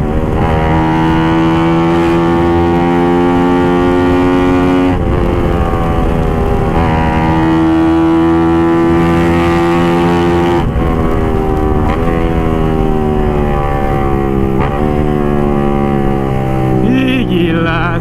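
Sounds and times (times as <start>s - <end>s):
motorcycle engine while riding: 0.0s - 18.0s
wind rumbling on microphone: 0.0s - 18.0s.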